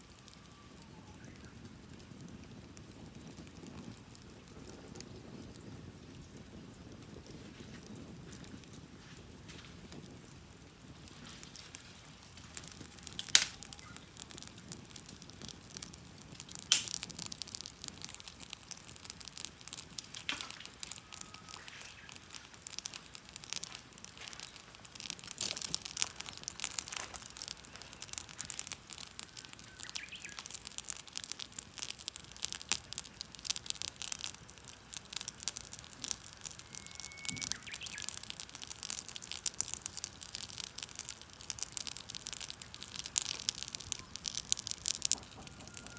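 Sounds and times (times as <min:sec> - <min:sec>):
wood fire crackling: 0:00.0 - 0:45.9
sharp pops of fire: 0:00.1 - 0:45.9.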